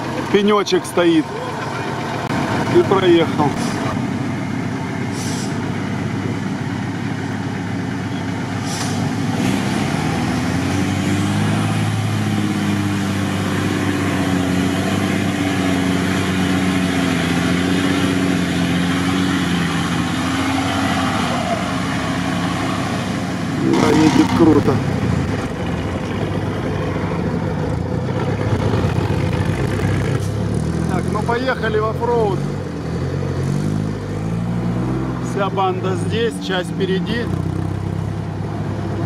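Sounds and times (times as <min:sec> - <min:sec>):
truck engine working under load: 0:00.0 - 0:39.0.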